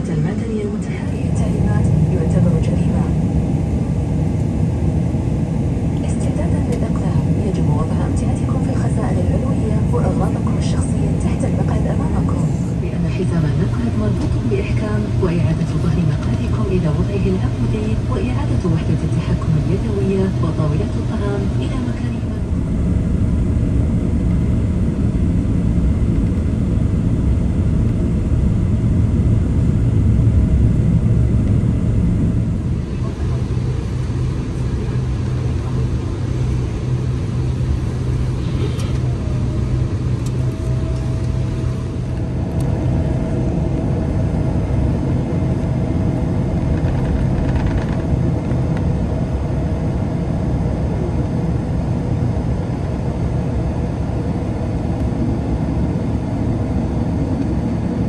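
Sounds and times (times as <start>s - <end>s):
low engine rumble in cabin: 0.0s - 58.0s
low hum: 0.0s - 58.0s.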